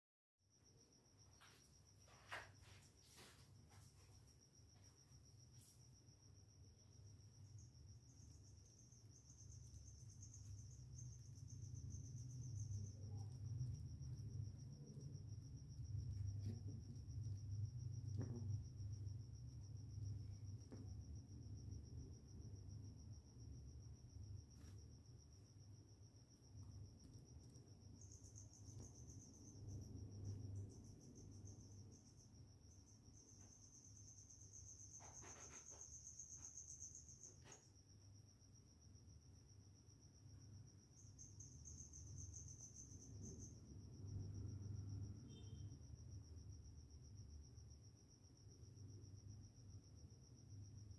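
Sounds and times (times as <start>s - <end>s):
cricket trilling: 0.5s - 50.9s
high-pitched insect chirping: 1.4s - 37.8s, 40.2s - 46.1s.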